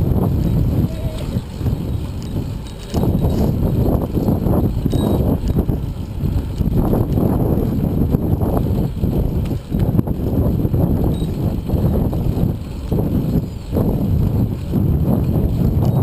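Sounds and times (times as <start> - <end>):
bicycle rolling along path: 0.0 - 16.0
wind buffeting microphone: 0.0 - 16.0.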